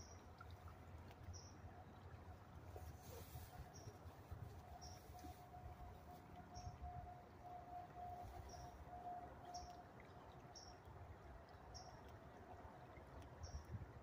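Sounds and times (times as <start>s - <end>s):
faint steady hum: 0.0s - 14.0s
low steady rumble: 0.0s - 14.0s.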